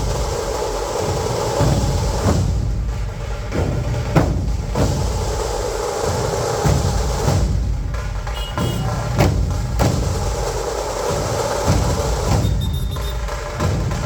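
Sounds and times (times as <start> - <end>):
dense drumming: 0.0 - 14.0
loud dhol drum strikes: 0.0 - 14.0.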